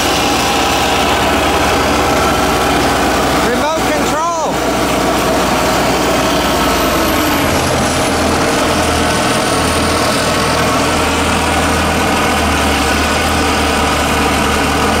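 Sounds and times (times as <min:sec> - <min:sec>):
high whine: 0:00.0 - 0:15.0
stump grinder engine running: 0:00.0 - 0:15.0.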